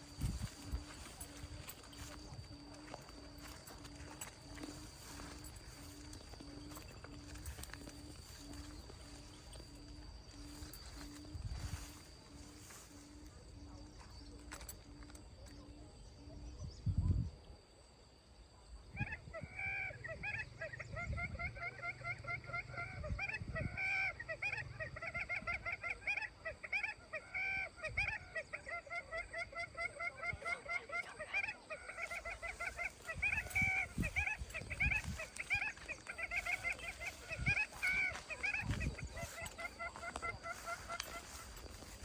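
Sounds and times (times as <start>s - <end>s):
flock of waterfowl calling: 0.0s - 16.4s, 19.0s - 42.0s.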